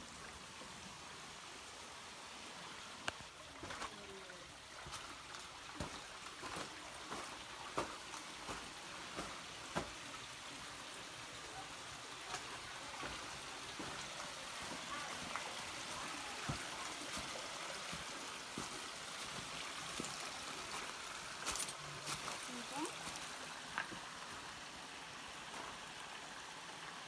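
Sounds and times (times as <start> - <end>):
creek trickling over rocks: 0.0 - 27.0.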